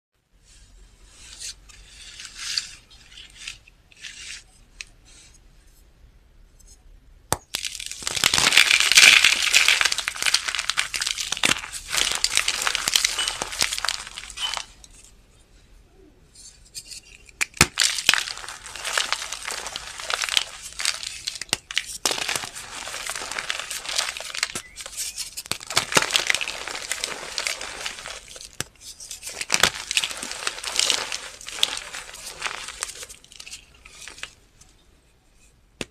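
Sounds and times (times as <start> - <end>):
chalk crunching and crumbling: 1.2 - 4.6, 7.5 - 15.1, 16.4 - 34.6.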